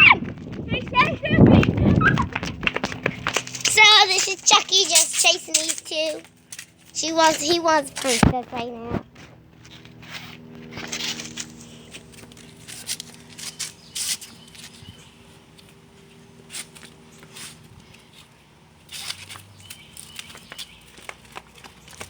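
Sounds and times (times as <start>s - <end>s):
light scuffs and taps: 1.6s - 22.0s.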